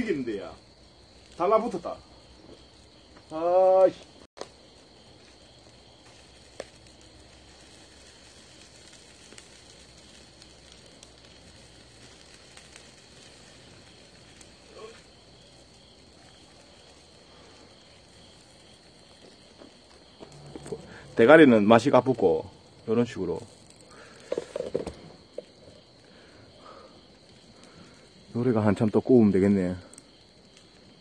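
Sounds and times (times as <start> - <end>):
fire crackle: 0.0 - 31.0
fish grilling over fire hiss: 0.0 - 31.0.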